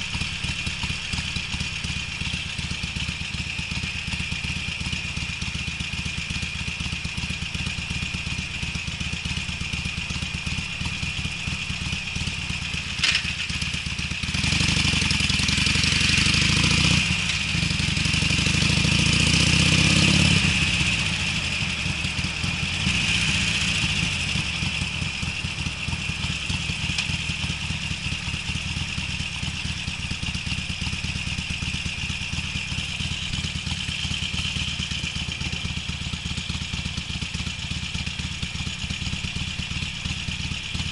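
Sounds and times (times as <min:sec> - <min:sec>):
motorcycle exhaust pulsing: 0:00.0 - 0:40.9.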